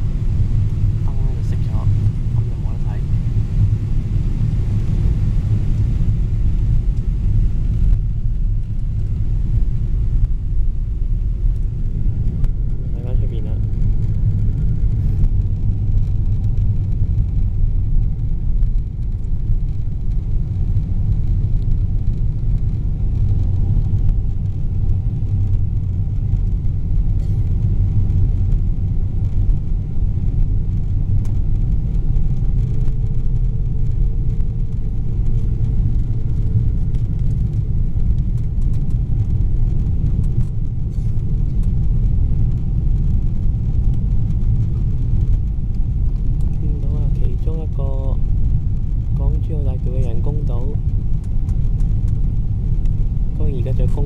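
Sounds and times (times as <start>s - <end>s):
aircraft cabin rumble in flight: 0.0s - 54.0s.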